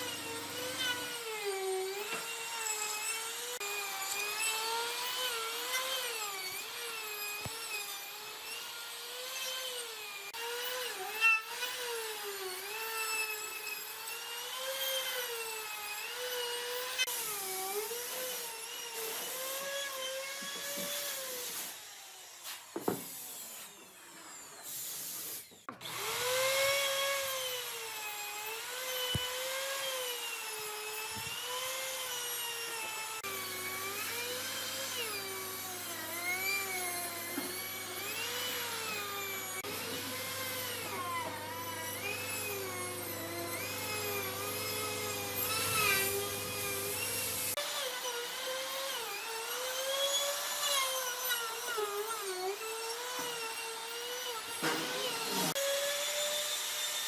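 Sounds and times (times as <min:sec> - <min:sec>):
power tool motor on wood: 0:00.0 - 0:57.0.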